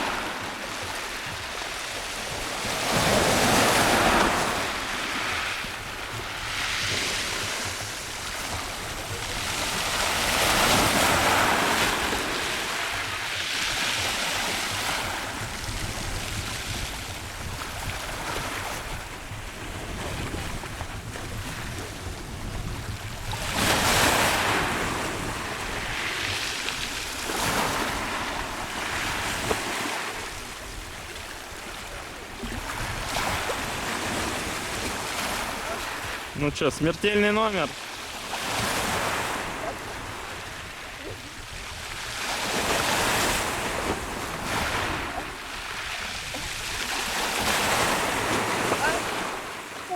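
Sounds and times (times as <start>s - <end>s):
wind rumbling on microphone: 0.0s - 36.4s, 38.5s - 49.8s
waves breaking: 0.0s - 49.9s.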